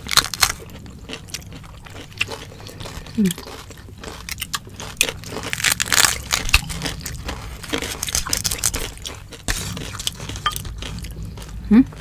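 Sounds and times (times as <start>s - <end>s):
crispy skin crackling and crunching: 0.0s - 12.0s.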